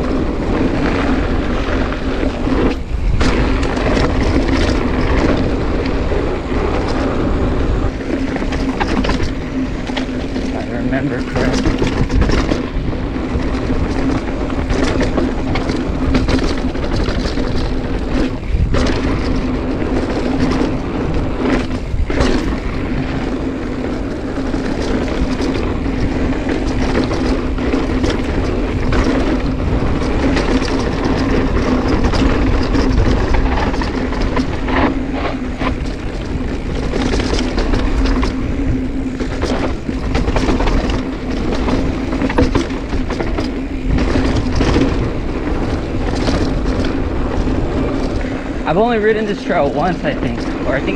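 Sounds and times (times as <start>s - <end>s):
bike knocks and rattles: 0.0s - 50.9s
wind and tyre noise: 0.0s - 50.9s.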